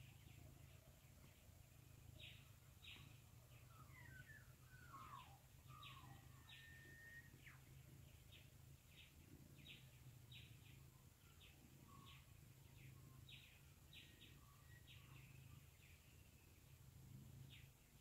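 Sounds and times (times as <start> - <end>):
distant birds calling: 0.0 - 18.0
low steady hum: 0.0 - 18.0.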